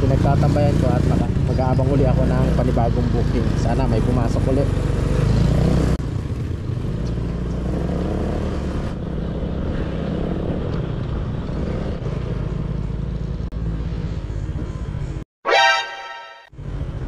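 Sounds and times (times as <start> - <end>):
road and wind noise: 0.0 - 15.2, 16.5 - 17.0.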